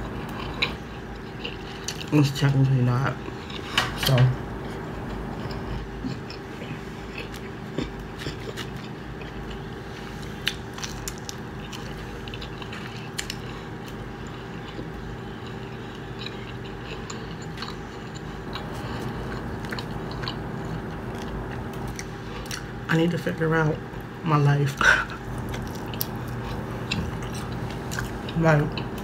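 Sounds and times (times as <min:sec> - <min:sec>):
chewing and biting pizza: 0:00.0 - 0:24.0, 0:24.6 - 0:29.0
steady low hum: 0:00.0 - 0:29.0.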